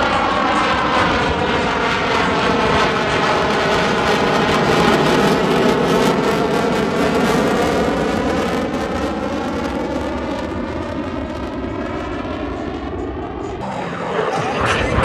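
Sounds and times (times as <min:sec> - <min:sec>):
jet aircraft flying past: 0:00.0 - 0:15.0.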